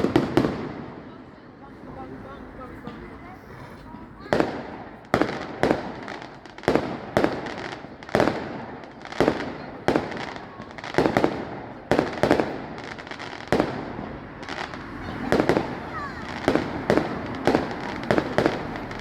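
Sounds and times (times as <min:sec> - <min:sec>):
fireworks bangs with echo: 0:00.0 - 0:19.0.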